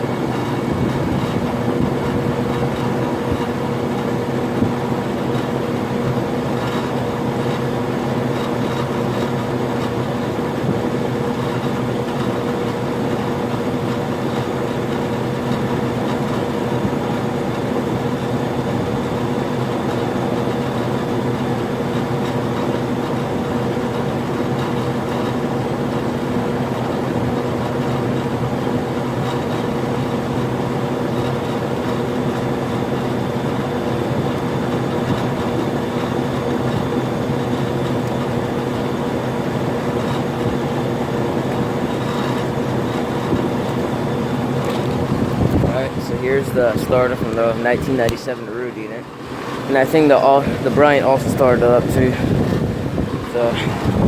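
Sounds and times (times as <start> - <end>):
air conditioner compressor hum: 0.0 - 54.0
condenser fan rushing: 0.0 - 54.0.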